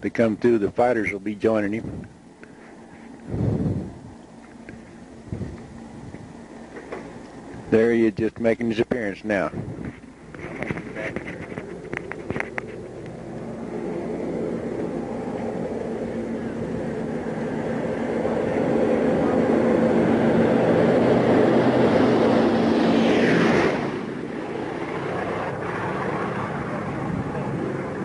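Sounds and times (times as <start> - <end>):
propeller plane engines droning: 0.0 - 28.0.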